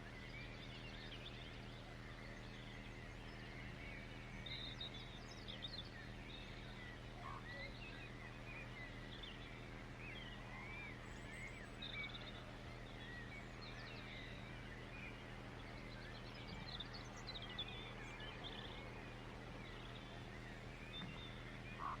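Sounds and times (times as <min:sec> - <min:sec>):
songbirds chirping: 0:00.0 - 0:22.0
steady low hum: 0:00.0 - 0:22.0.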